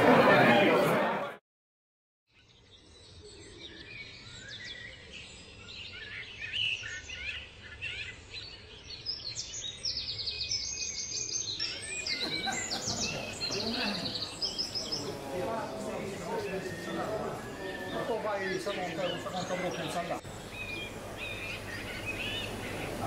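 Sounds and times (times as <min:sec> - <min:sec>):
songbirds chirping and singing: 0:02.3 - 0:23.0.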